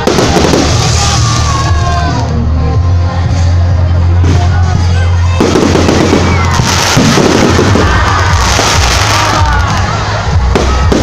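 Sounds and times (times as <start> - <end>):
fireworks bursting and crackling: 0.0 - 2.4, 4.2 - 11.0
crowd noise: 0.0 - 11.0
loud music with heavy bass: 0.0 - 11.0.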